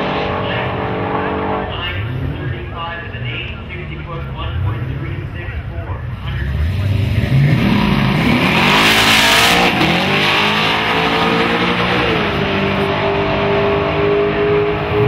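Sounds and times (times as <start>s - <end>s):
drag car engines accelerating: 0.0s - 15.0s.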